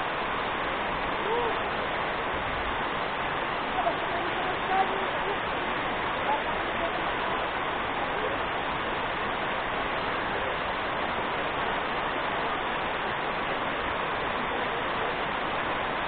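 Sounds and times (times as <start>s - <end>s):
waterfall rushing over rock: 0.0s - 16.0s.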